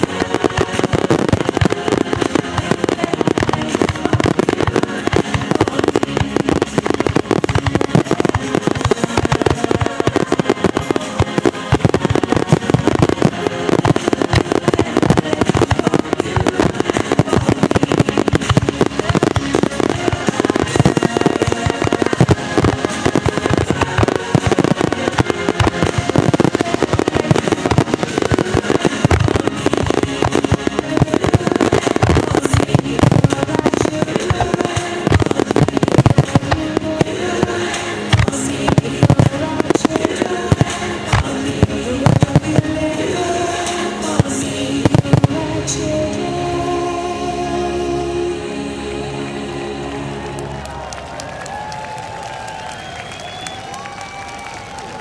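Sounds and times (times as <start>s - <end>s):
firework shells bursting and crackling: 0.0s - 45.9s, 51.6s - 55.0s
music playing: 0.0s - 55.0s.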